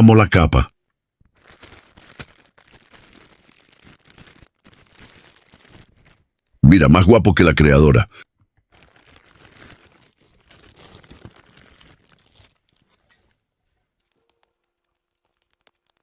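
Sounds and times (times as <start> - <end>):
plastic packaging crinkling: 1.2 - 6.6, 8.6 - 16.0.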